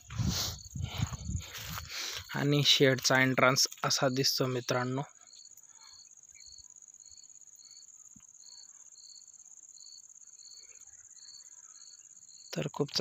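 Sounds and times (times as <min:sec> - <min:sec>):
insect chirping: 0:00.0 - 0:13.0
insect trill: 0:00.0 - 0:13.0.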